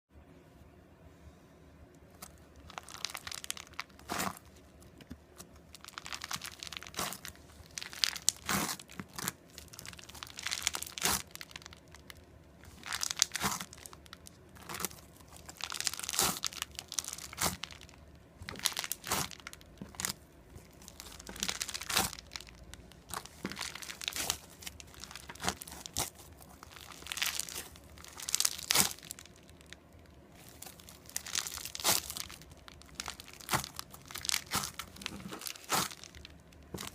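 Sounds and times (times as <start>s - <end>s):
crunchy slime crackling and popping: 2.1s - 36.9s.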